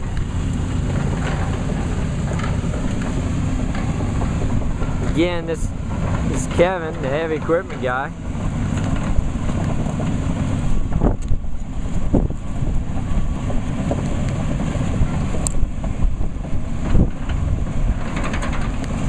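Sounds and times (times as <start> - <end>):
diesel engine rumbling: 0.0 - 19.0
wind buffeting microphone: 0.0 - 19.0.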